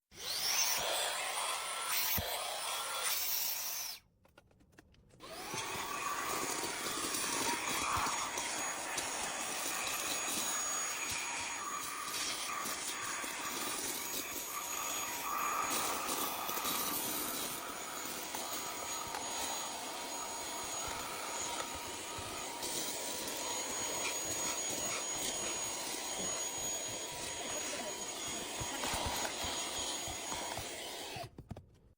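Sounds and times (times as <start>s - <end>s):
handheld vacuum cleaner whirring: 0.0s - 4.0s, 5.2s - 31.4s.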